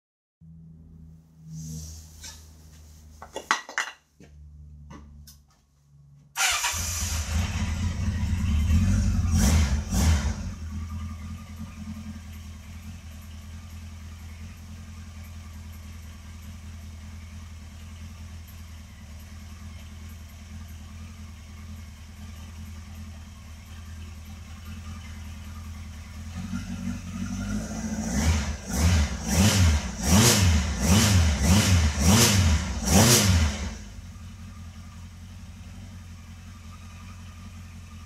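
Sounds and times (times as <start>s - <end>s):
motorcycle engine revving and idling: 6.4s - 38.0s.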